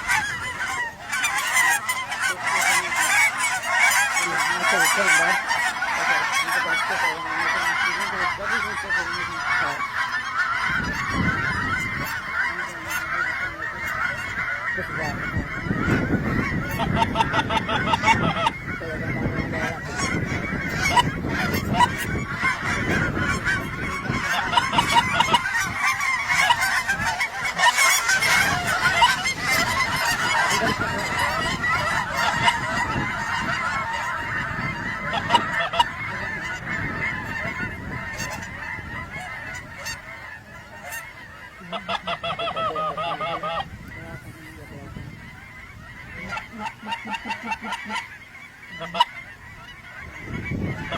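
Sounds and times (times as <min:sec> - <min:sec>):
flock of geese honking: 0:00.0 - 0:50.9.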